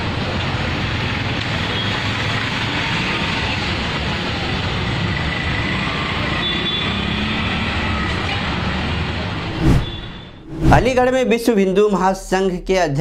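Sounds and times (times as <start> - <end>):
roadside traffic: 0.0 - 10.9.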